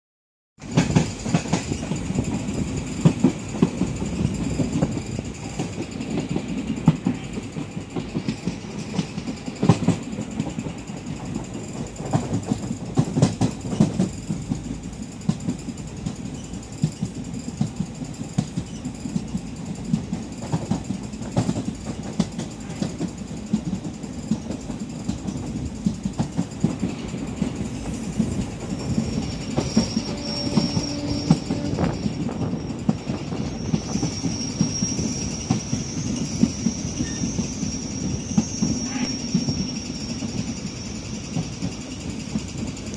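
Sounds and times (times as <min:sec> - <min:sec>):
train rumble: 0:00.6 - 0:42.9.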